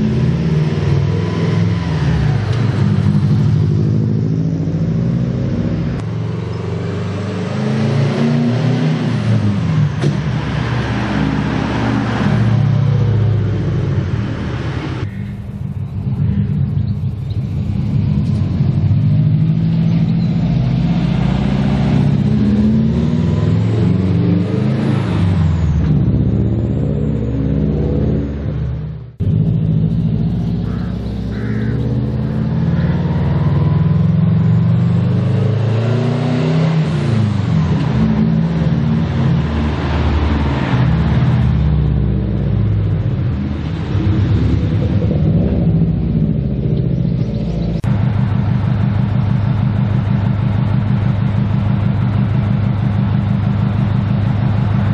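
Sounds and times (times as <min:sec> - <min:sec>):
car engine and exhaust rumbling: 0:00.0 - 0:54.9.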